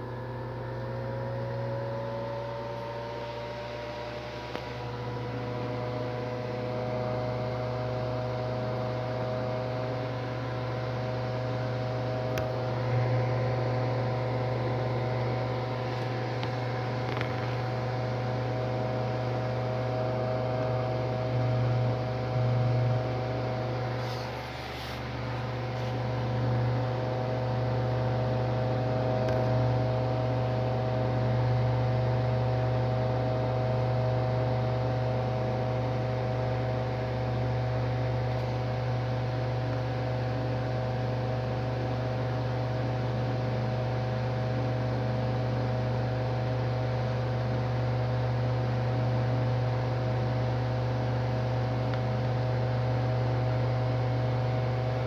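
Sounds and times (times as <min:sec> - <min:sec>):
washing machine motor humming: 0:00.0 - 0:55.0.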